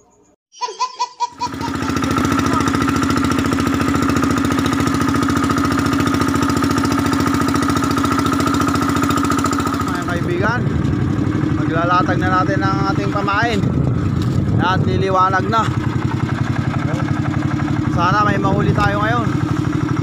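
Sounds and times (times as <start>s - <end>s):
boat engine running steadily: 1.5s - 20.0s.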